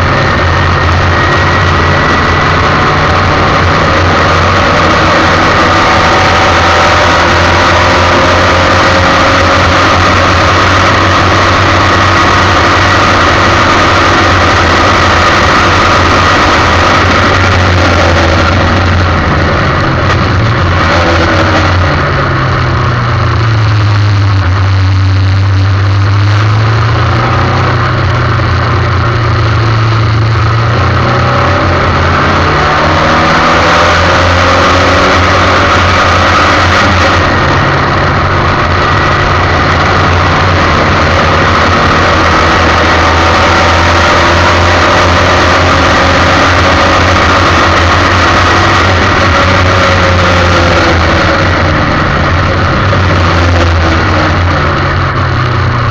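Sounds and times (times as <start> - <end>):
race car engine revving: 0.0 - 55.9.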